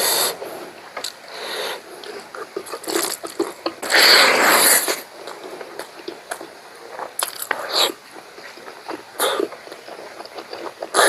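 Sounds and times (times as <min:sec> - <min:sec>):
wet chewing: 0:01.0 - 0:11.0.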